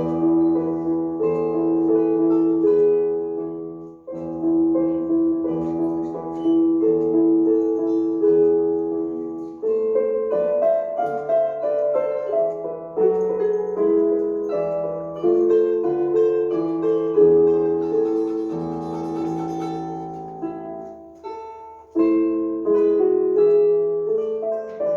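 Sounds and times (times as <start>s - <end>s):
slow gentle piano piece: 0.0s - 24.9s.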